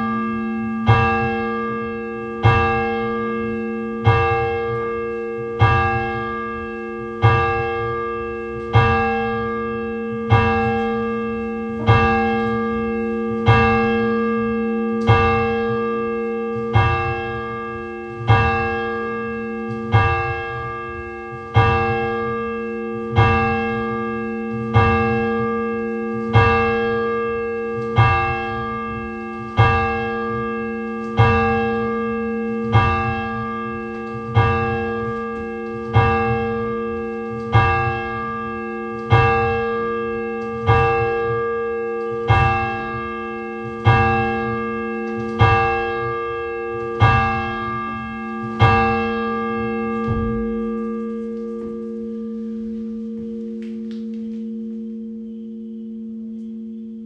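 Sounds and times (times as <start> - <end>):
church bell tolling: 0.0 - 57.0.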